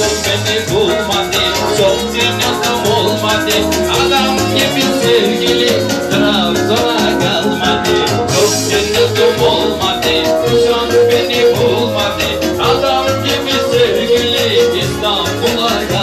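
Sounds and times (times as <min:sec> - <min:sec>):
live folk-pop band through pa: 0:00.0 - 0:16.0.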